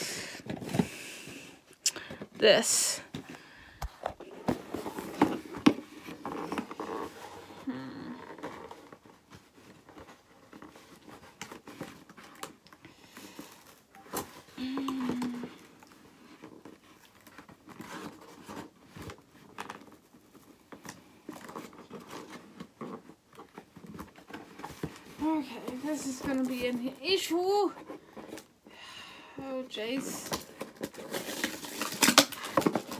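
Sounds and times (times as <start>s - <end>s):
packaging clicks and rustles: 3.0s - 28.6s, 29.7s - 32.9s.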